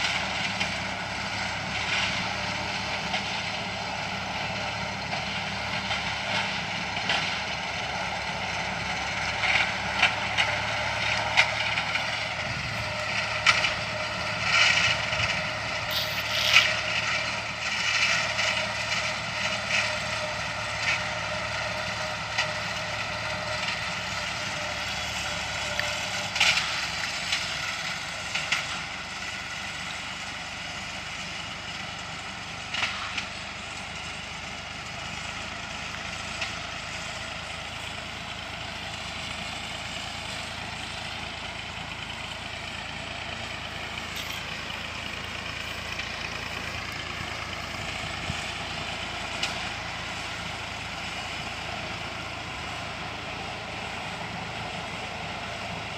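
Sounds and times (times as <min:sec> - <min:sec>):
mower engines running at high revs: 0:00.0 - 0:55.9.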